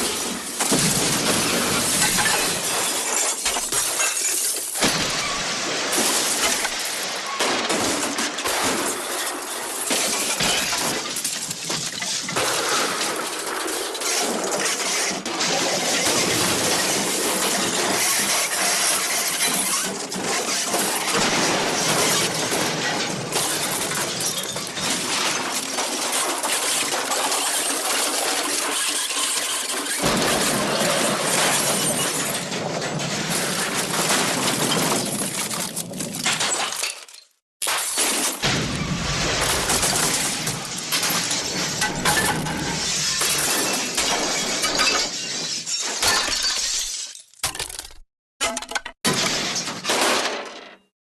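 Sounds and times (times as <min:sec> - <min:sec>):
glass shattering: 0:00.0 - 0:50.9.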